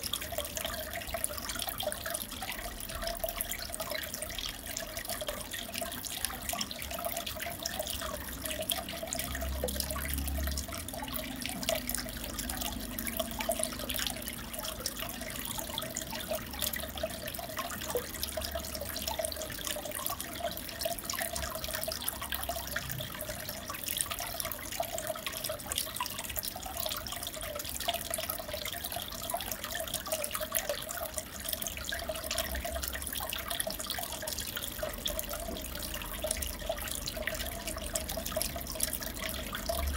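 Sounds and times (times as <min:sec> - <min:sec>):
aquarium water trickling: 0:00.0 - 0:39.9
water dripping: 0:00.0 - 0:39.9.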